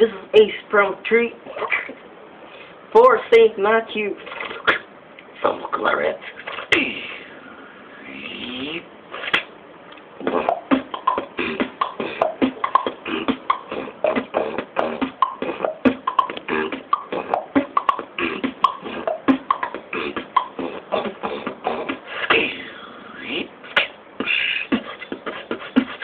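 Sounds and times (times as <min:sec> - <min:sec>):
beatboxing: 0:01.4 - 0:02.0, 0:04.2 - 0:26.0.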